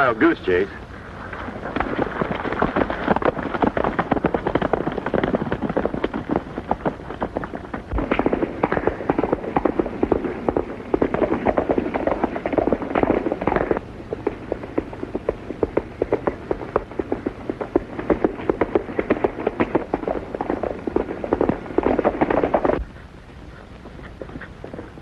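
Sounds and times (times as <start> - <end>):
horses galloping hoofbeats: 0.0 - 25.0.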